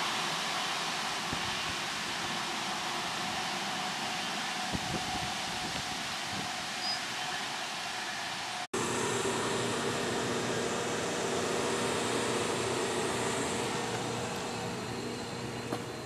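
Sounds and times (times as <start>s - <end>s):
train hum with held tones: 0.0s - 16.0s.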